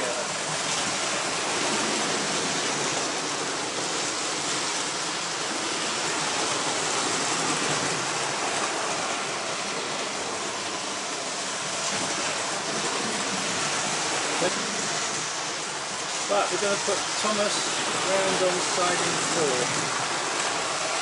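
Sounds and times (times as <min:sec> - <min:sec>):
model trains running on track: 0:00.0 - 0:21.0.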